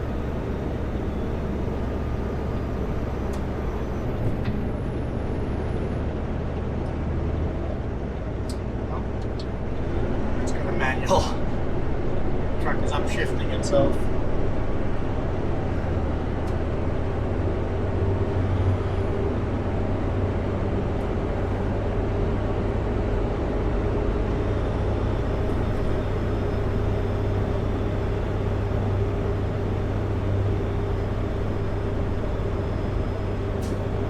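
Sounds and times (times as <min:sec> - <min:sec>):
road noise: 0:00.0 - 0:34.0
truck diesel engine droning: 0:00.0 - 0:34.0.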